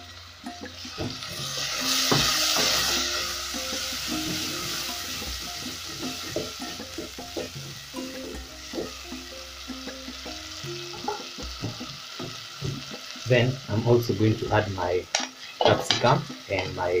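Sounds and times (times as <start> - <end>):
tomatoes sizzling in hot oil: 0.0 - 17.0.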